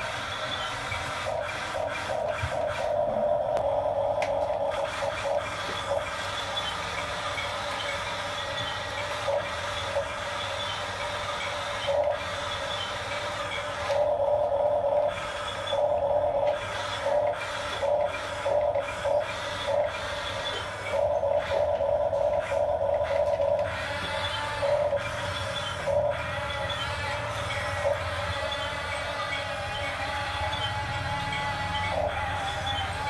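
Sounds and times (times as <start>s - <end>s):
toy electric motors whining: 0.0s - 33.0s.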